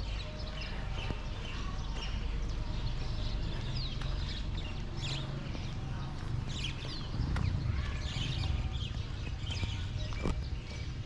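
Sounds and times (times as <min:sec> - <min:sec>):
small birds chirping: 0:00.0 - 0:11.0
steady low rumble: 0:00.7 - 0:11.0.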